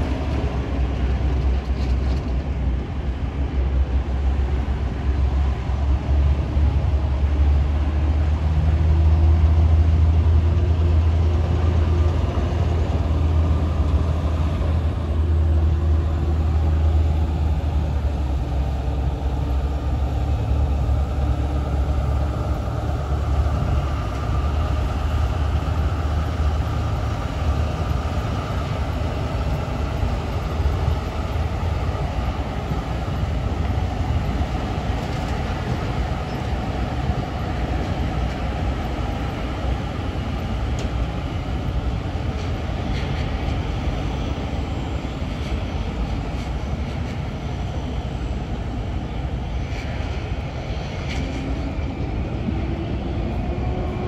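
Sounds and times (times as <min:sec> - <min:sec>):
truck diesel engine rumbling: 0:00.0 - 0:49.4.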